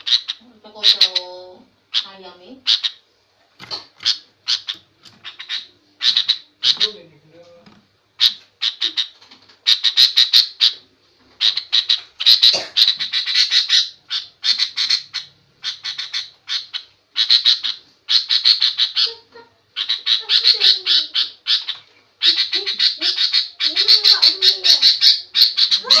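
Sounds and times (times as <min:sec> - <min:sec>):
bird chattering harshly: 0:00.0 - 0:03.0, 0:03.6 - 0:07.0, 0:08.2 - 0:10.8, 0:11.4 - 0:26.0.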